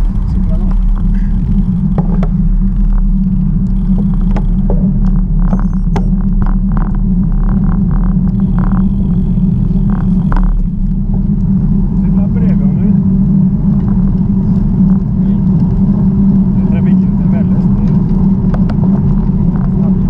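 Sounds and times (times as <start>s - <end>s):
bicycle riding wind and road rumble: 0.0s - 20.0s.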